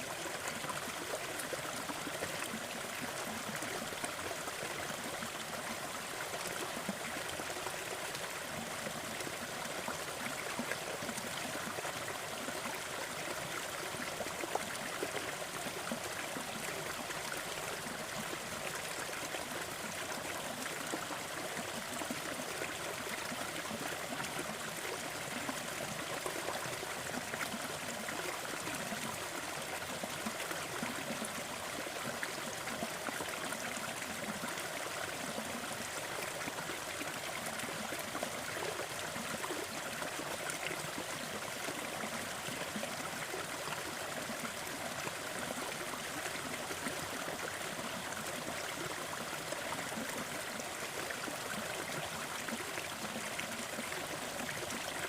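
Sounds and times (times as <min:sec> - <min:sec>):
small waterfall flowing: 0:00.0 - 0:55.0.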